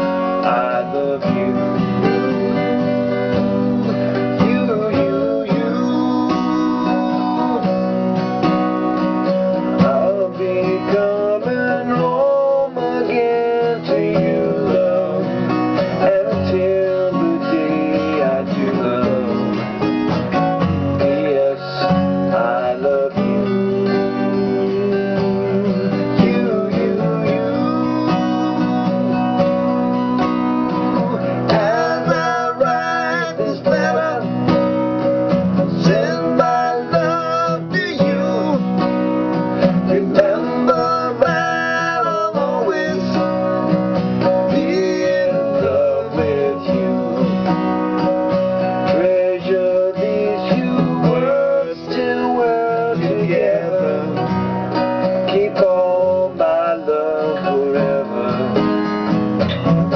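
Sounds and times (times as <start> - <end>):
acoustic guitar strumming and picking: 0.0 - 59.9.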